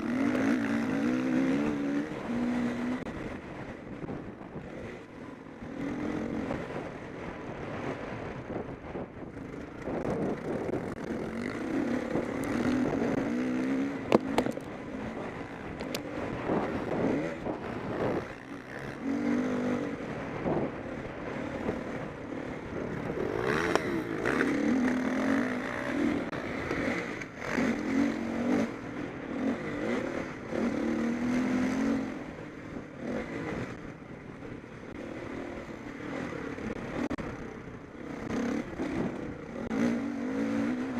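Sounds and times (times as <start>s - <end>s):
motocross bikes revving past: 0.0s - 8.4s, 9.2s - 40.9s.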